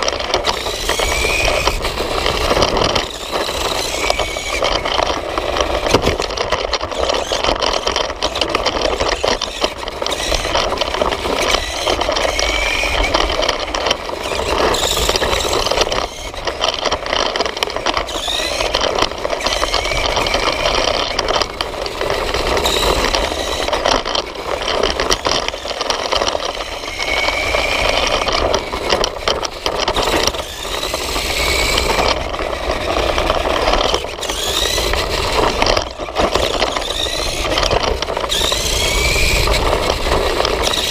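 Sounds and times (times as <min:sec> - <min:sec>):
electric motor whines: 0:00.0 - 0:40.9
toy motorcycle body rattling: 0:00.0 - 0:40.9.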